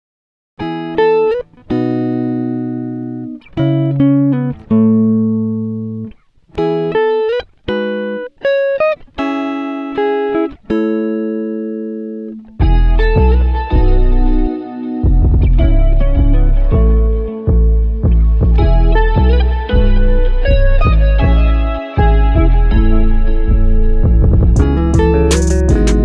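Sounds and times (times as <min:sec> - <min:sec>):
plucked string instrument melody: 0:00.6 - 0:26.0.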